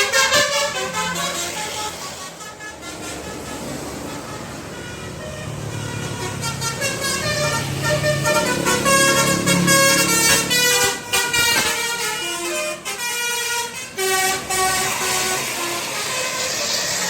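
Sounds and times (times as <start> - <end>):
bus engine rumble: 0.0 - 17.0
multi-tone bus air horn melody: 0.0 - 17.0.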